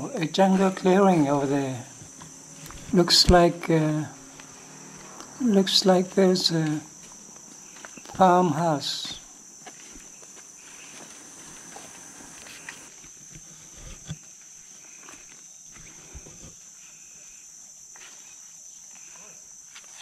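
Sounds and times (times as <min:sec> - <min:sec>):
rainforest insects droning: 0:00.0 - 0:20.0.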